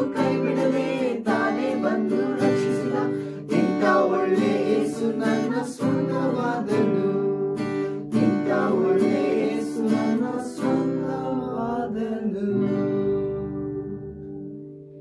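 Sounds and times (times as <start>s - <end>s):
group singing a worship song: 0.0s - 12.4s
acoustic guitar strumming: 0.0s - 15.0s.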